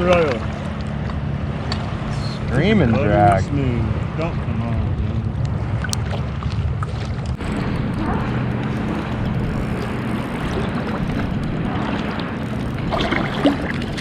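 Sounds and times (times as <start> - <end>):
low engine drone: 0.3 - 14.0.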